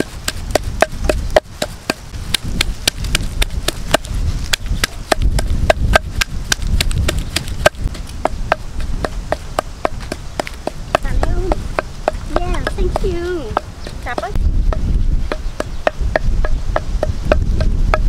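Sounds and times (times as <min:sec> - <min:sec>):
pestle pounding in mortar: 0:00.0 - 0:18.0.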